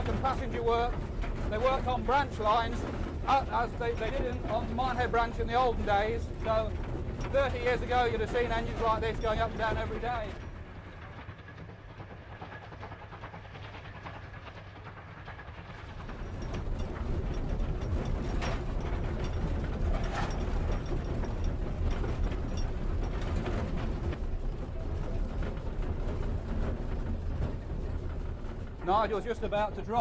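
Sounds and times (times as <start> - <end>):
cab rattling: 0.0 - 30.0
rail joint clicks and knocks: 0.0 - 30.0
steam train running: 0.0 - 30.0.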